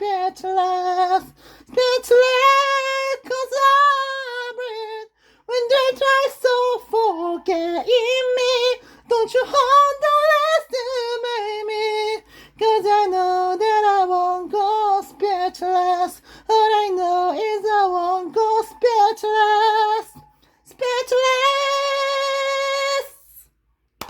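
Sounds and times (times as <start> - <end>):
woman singing: 0.0 - 23.6.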